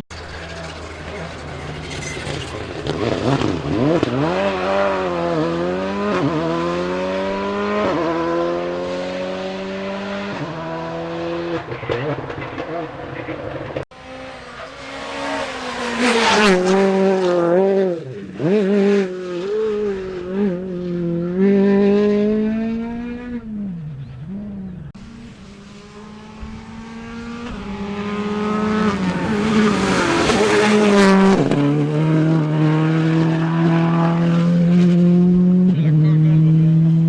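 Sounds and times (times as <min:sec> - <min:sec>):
rally car engine revving: 0:00.1 - 0:37.0
rally car passing: 0:00.1 - 0:37.0.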